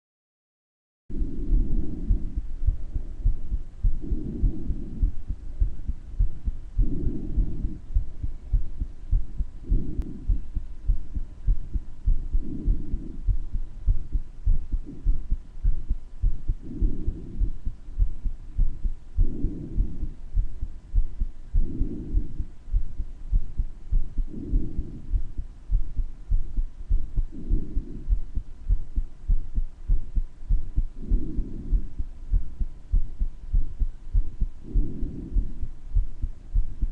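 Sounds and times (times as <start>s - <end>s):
breath sounds: 1.1s - 36.9s
heartbeat with murmur: 1.1s - 36.9s.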